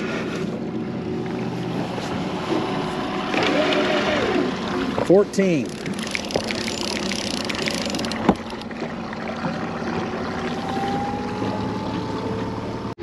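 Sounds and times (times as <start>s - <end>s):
outboard motor running: 0.0s - 13.0s
water noise: 0.0s - 13.0s.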